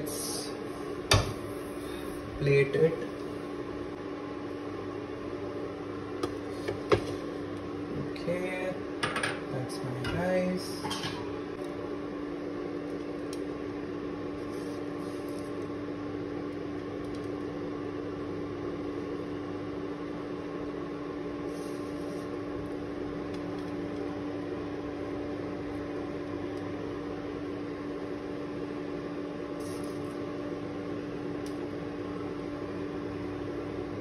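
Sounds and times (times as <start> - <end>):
electric fan hum: 0.0 - 34.0.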